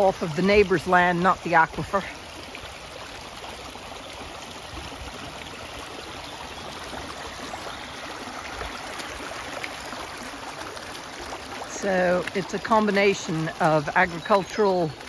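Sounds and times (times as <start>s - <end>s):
shallow water rushing and burbling: 0.0s - 15.0s.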